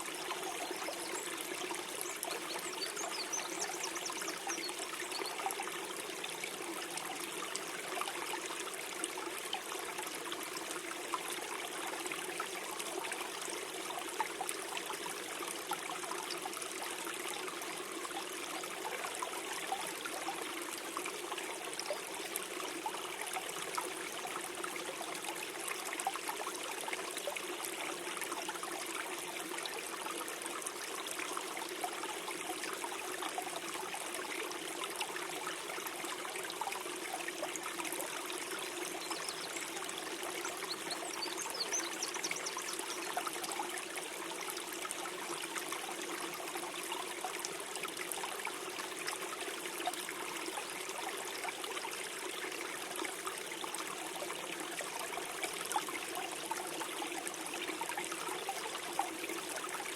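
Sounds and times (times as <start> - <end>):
stream gurgling: 0.0 - 59.9.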